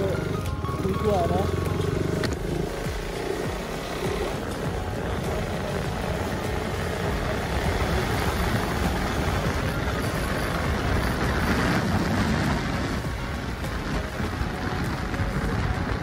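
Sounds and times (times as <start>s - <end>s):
motorcycle engine: 0.0s - 16.0s
road noise: 0.0s - 16.0s
wind rush: 2.4s - 16.0s.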